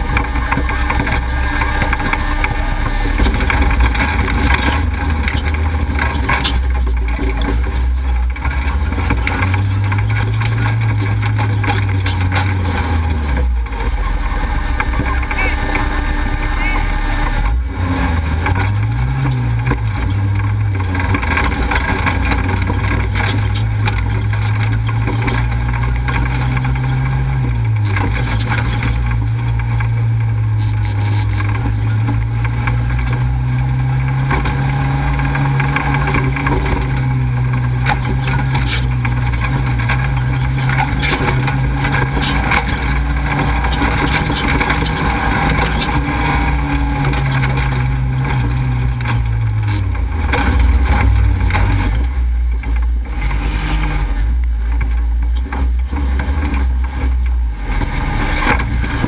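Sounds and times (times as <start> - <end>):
off-road vehicle engine revving: 0.0 - 59.0
rattles and ticks: 0.0 - 59.0
road and wind noise: 0.0 - 59.0.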